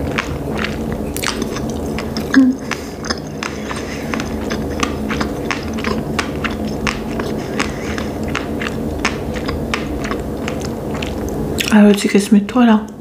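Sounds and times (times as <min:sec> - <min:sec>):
wet mouth chewing clicks: 0:00.0 - 0:12.0
steady low hum: 0:00.0 - 0:13.0.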